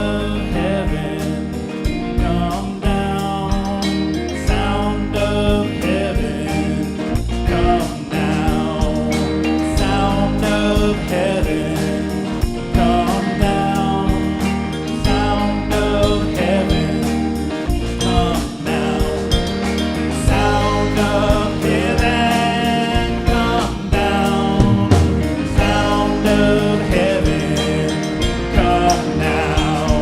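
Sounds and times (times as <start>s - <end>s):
worship band with singing: 0.0s - 30.0s.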